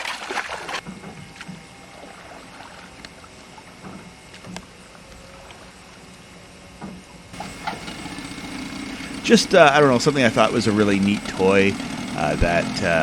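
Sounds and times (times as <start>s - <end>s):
waterside ambience hiss: 0.0s - 13.0s.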